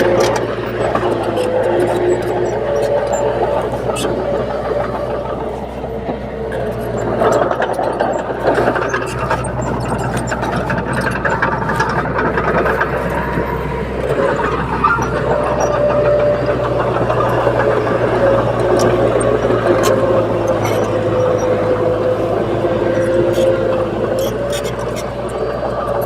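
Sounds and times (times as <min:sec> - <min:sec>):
diesel machinery running: 0:00.0 - 0:26.0.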